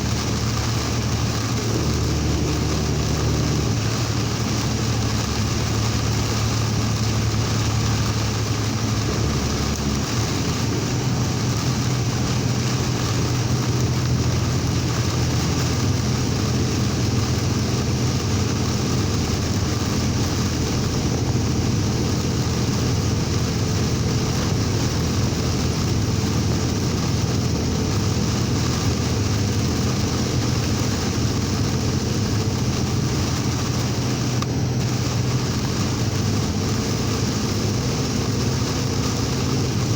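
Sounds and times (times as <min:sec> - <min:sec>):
rain hiss: 0:00.0 - 0:39.9
road spray: 0:00.0 - 0:39.9
vehicle engine hum: 0:00.0 - 0:39.9
wind: 0:00.0 - 0:39.9.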